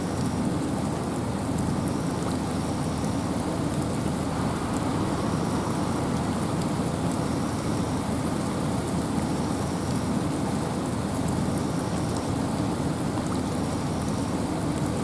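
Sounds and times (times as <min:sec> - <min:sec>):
rain: 0:00.0 - 0:15.0
wind in forest: 0:00.0 - 0:15.0.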